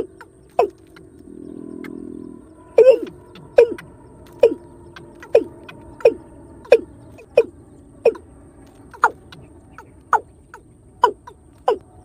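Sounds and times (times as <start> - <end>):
bird calling low falling notes: 0.0 - 12.0.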